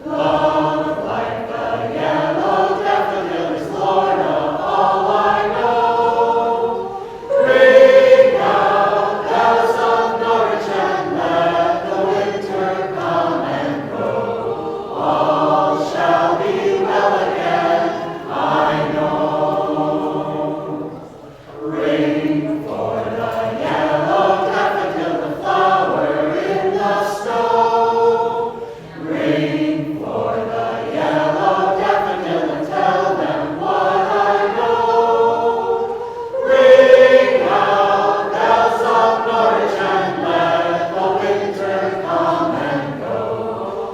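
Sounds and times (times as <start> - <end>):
small choir singing: 0.0 - 43.9.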